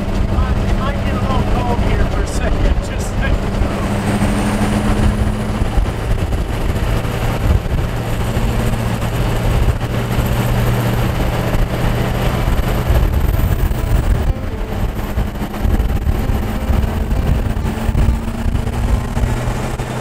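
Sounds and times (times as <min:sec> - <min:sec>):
diesel engine droning: 0:00.0 - 0:20.0
road and tyre noise: 0:00.0 - 0:20.0
wind buffeting microphone: 0:00.0 - 0:20.0.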